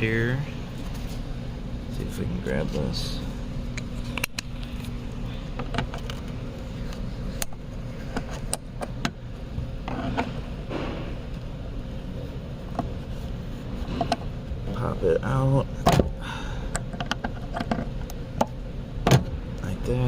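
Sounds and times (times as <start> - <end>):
steady low background noise: 0.0 - 20.0.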